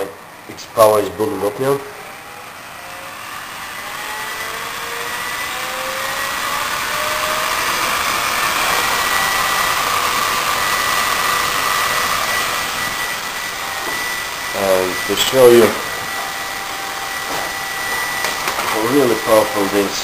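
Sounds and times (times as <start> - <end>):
blower fan whine: 0.0 - 20.0.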